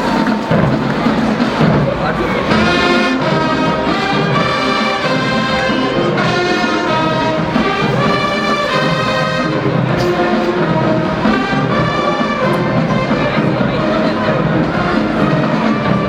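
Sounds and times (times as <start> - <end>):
marching band brass chords: 0.0 - 16.0.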